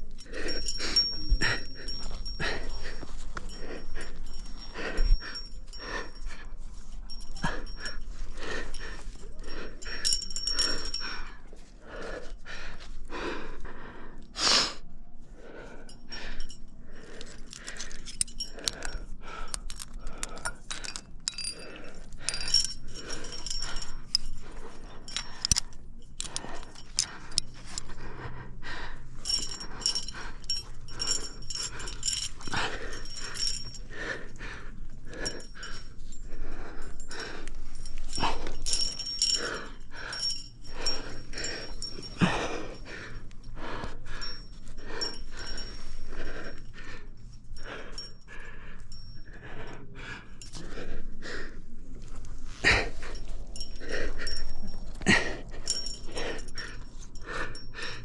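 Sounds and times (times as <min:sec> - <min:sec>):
carabiners clinking: 0:00.0 - 0:14.2, 0:15.2 - 0:58.0
climber breathing hard: 0:00.0 - 0:58.0.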